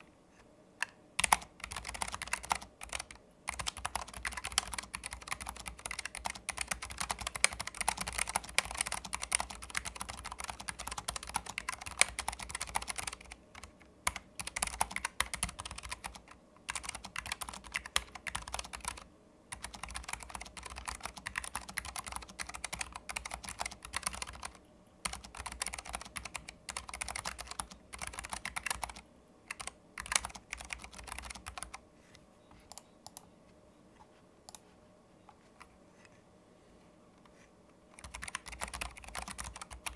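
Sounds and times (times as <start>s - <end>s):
keyboard typing: 0.8s - 31.8s, 32.5s - 33.3s, 34.0s - 36.1s, 37.9s - 39.9s.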